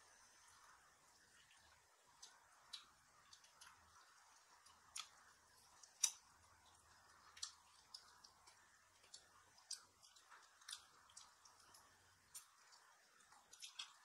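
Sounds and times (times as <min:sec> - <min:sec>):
crunchy chewing: 0:01.4 - 0:14.0.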